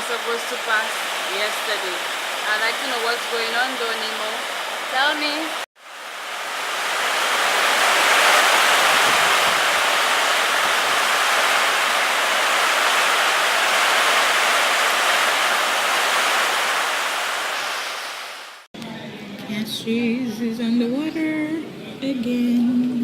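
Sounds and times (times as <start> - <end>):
heavy rain pouring: 0.0 - 18.7.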